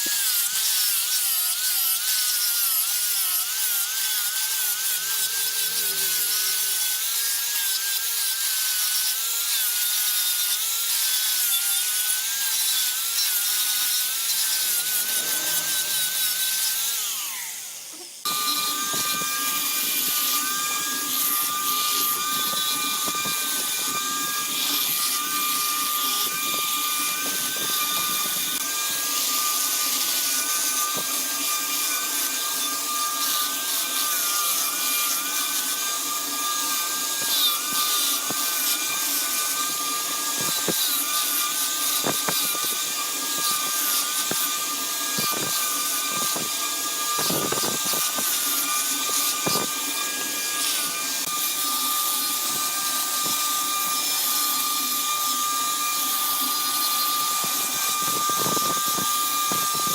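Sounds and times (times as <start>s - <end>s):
lathe tool scraping wood: 0.0s - 59.9s
lathe motor whine: 3.4s - 8.1s, 12.1s - 59.9s.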